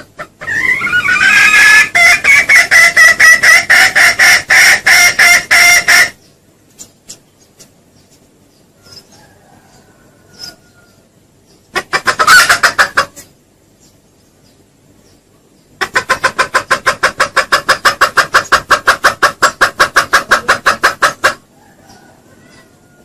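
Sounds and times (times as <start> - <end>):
junglefowl clucking: 0.0 - 7.8, 8.8 - 13.4, 15.8 - 23.0.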